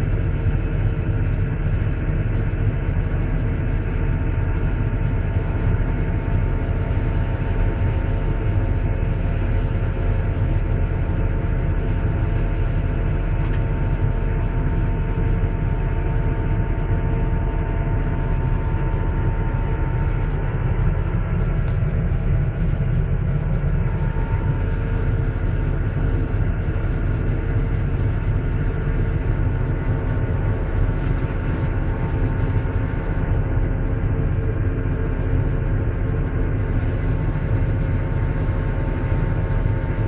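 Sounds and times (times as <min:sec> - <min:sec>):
steady whine: 0:00.0 - 0:40.0
excavator diesel engine rumble: 0:00.7 - 0:40.0.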